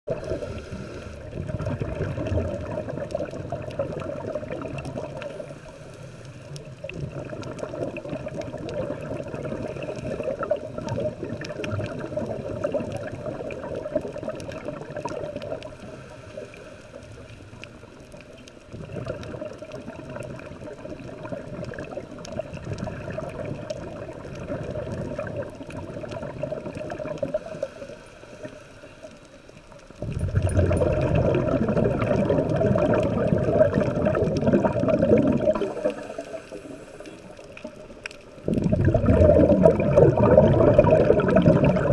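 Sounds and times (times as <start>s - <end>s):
muffled underwater gurgling: 0.1s - 29.0s, 29.9s - 41.9s.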